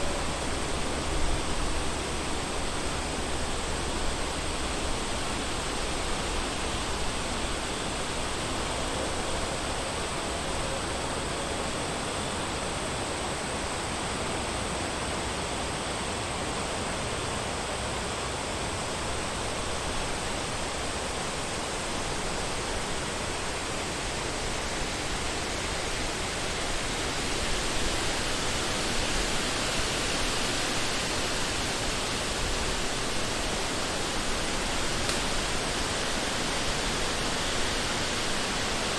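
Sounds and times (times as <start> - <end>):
wind blowing through trees: 0.0 - 38.9.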